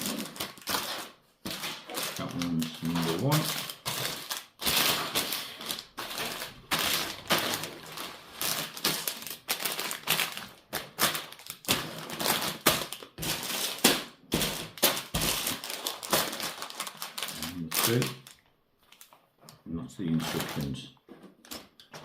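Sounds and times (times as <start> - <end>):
plastic bags crinkling: 0.0 - 19.2, 20.0 - 22.0
plastic parts clattering: 0.0 - 22.0.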